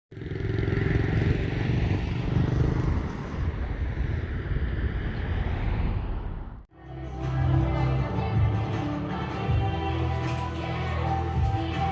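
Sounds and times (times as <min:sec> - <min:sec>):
road noise: 0:00.1 - 0:11.9.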